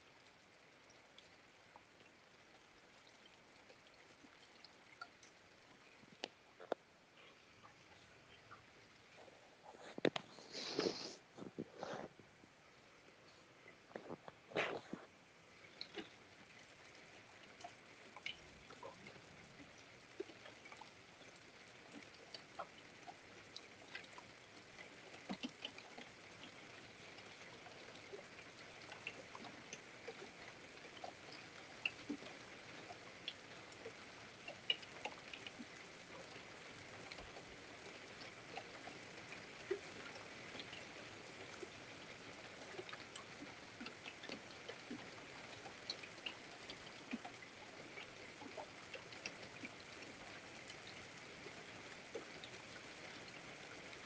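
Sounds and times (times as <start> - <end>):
faint hiss of rain: 0.0 - 54.0
raindrops ticking on hard surfaces: 0.0 - 54.0.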